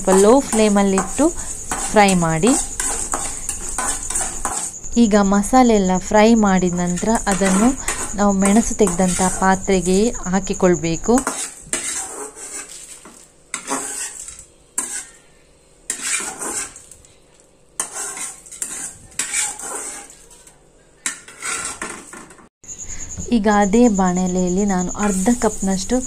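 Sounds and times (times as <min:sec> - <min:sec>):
metal spoon scraping spices in pan: 0:00.0 - 0:17.2, 0:17.8 - 0:22.3, 0:24.8 - 0:26.0.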